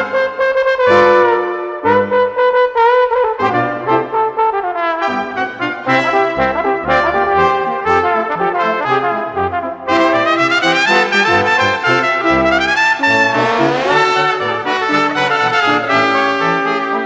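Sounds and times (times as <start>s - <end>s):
brass music holding chords: 0.0s - 17.0s.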